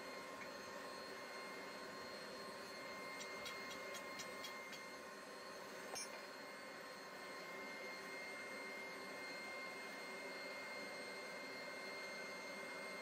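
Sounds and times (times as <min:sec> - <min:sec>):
faint high hum: 0:00.0 - 0:10.7.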